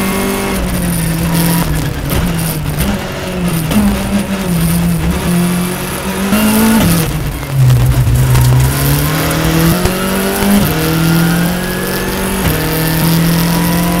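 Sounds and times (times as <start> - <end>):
car engine accelerating through gears: 0.0 - 14.0.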